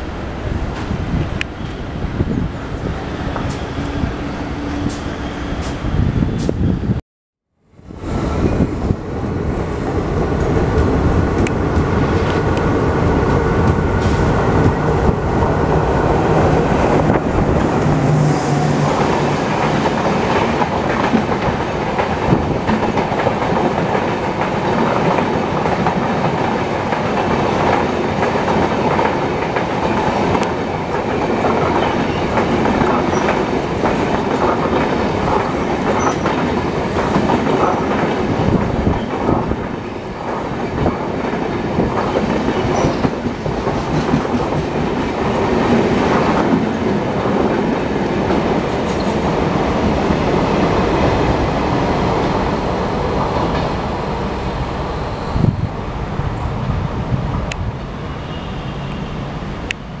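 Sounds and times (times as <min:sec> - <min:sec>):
train wheels rushing on rails: 0:07.8 - 1:00.0.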